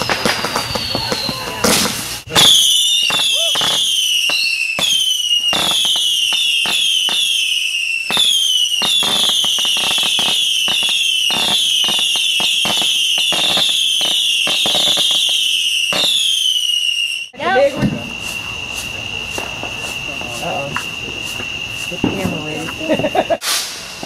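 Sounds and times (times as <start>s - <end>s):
firework pops and crackles: 0.0s - 24.0s
fireworks shrill whistles: 0.0s - 24.0s.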